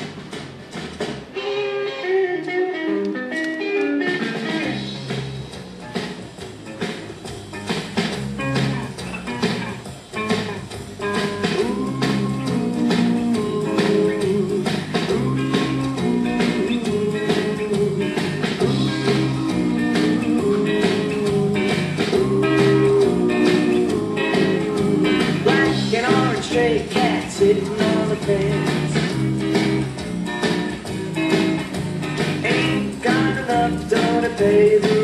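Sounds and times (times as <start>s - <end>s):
blues-rock song: 0.0s - 35.0s.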